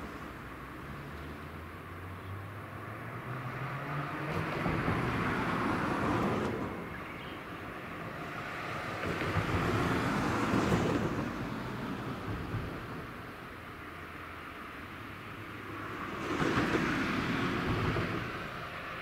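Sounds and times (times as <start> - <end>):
road vehicles passing by: 0.0 - 19.0.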